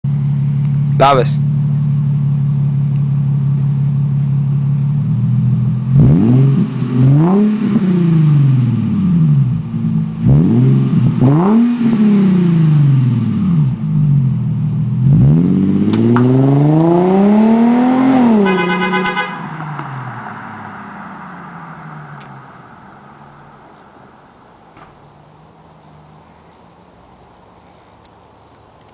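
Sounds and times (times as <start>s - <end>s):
car exhaust idling and revving: 0.0s - 28.9s.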